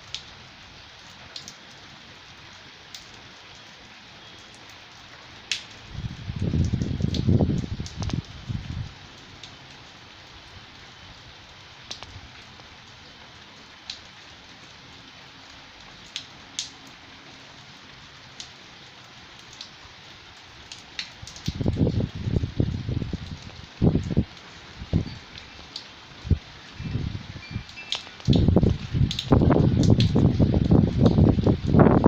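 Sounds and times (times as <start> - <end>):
raindrops ticking: 0.0 - 32.0
steady rain hiss: 0.0 - 32.0.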